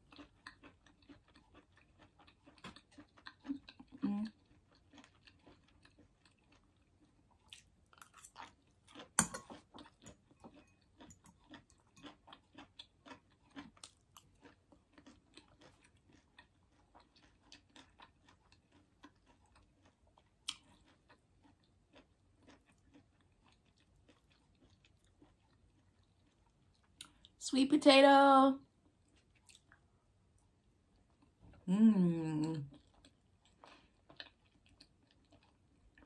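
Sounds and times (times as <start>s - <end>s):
person chewing: 0.0s - 27.4s, 28.8s - 31.7s, 32.4s - 36.0s.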